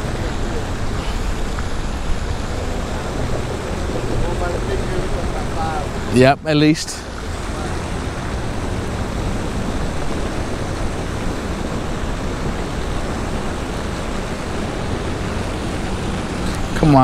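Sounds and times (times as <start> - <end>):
low rumble on microphone: 0.0 - 16.8
steady rain hiss: 0.0 - 17.0.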